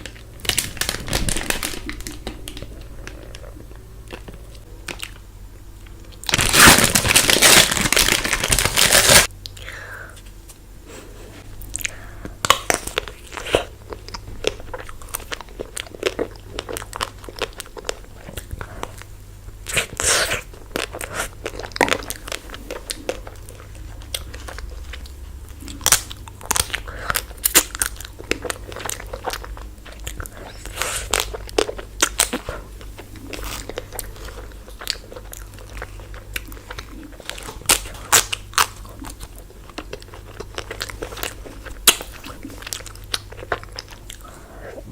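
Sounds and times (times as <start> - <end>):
wet chewing: 0.0 - 9.7, 11.6 - 44.9
crunching chocolate coating: 0.0 - 10.6, 11.5 - 44.9.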